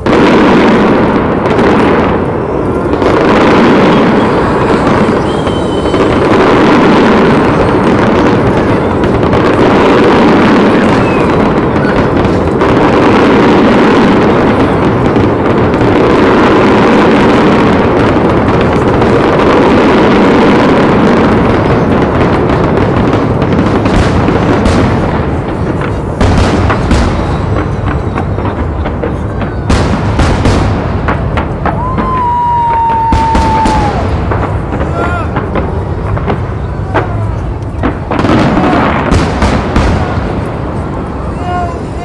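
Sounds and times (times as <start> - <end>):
fireworks bursts and crackles: 0.0 - 42.0.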